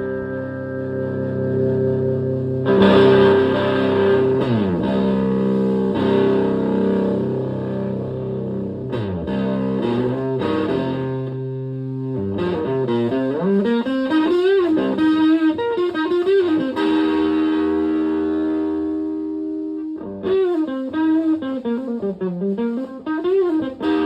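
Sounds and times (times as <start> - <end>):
fuzzed electric guitar: 0.0 - 24.0.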